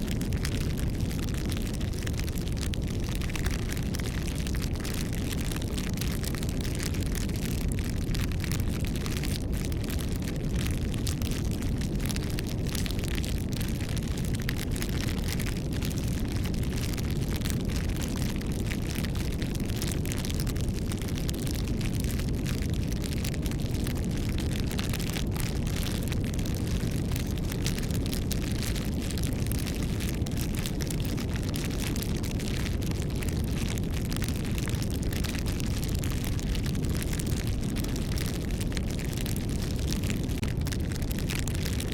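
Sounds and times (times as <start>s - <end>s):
low rush of flame: 0.0s - 41.9s
wood fire crackling: 0.0s - 41.9s.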